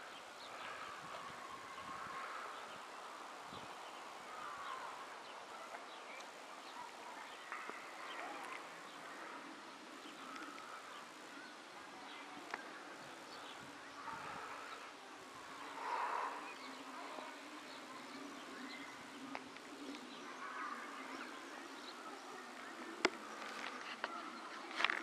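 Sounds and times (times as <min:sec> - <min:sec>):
faint birds chirping: 0:00.0 - 0:25.0
outdoor ambience hiss: 0:00.0 - 0:25.0.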